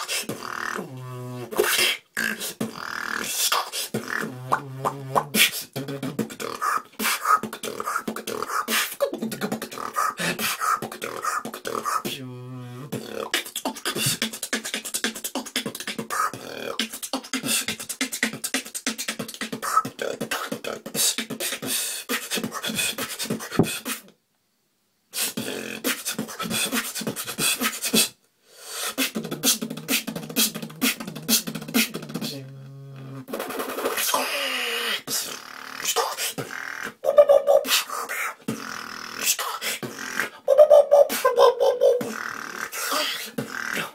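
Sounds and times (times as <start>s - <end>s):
person beatboxing: 0.0s - 24.1s, 25.1s - 43.9s.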